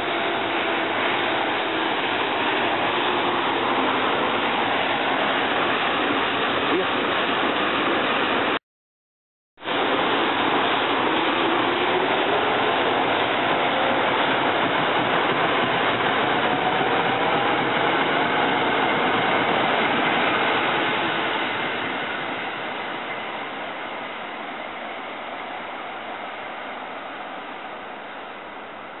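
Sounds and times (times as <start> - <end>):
electric train rushing past: 0.0 - 8.6, 9.6 - 28.9.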